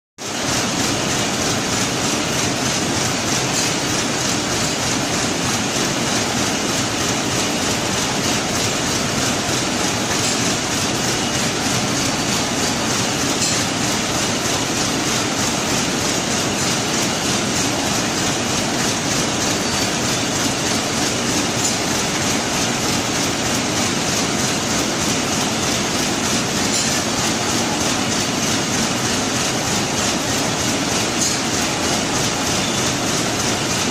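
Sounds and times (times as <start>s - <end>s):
knitting machine clattering: 0.4s - 33.9s.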